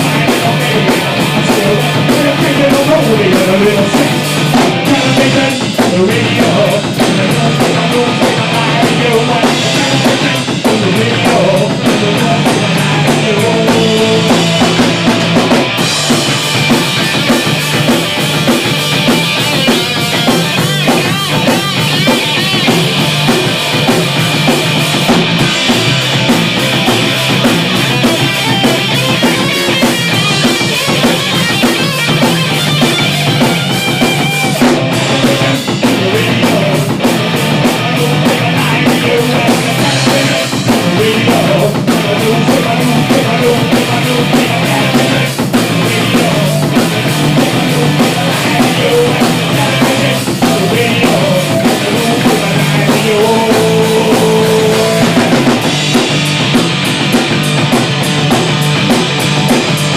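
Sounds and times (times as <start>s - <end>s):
loud fast rock music: 0.0s - 59.9s
pounding bass drum: 0.0s - 59.9s.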